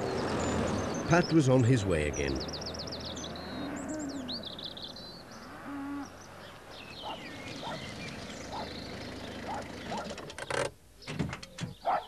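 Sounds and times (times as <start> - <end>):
birds chirping in high trills: 0.0 - 12.0.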